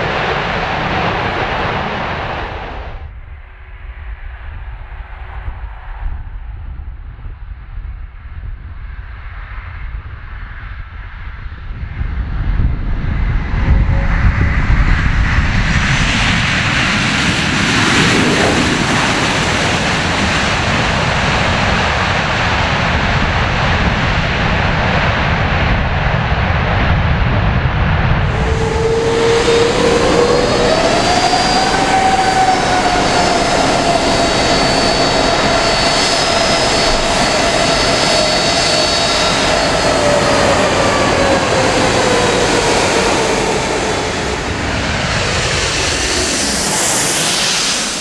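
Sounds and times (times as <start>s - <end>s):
jet engines roaring: 0.0s - 3.3s, 10.7s - 48.0s.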